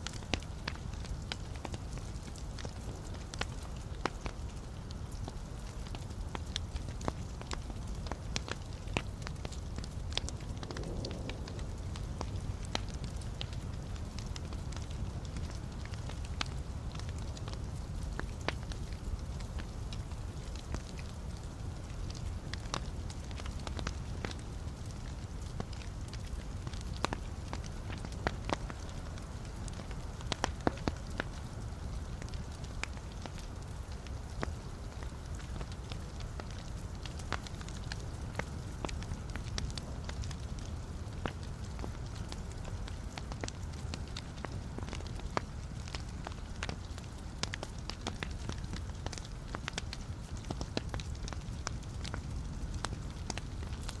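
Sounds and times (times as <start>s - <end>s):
logs crackling: 0.0s - 54.0s
low rumble of flame: 0.0s - 54.0s
sharp pops of burning logs: 0.0s - 54.0s.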